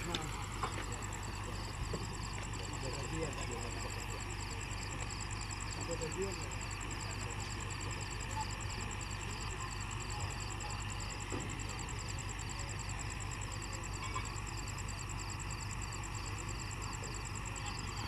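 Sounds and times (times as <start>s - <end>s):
night insects chirping: 0.0s - 18.0s.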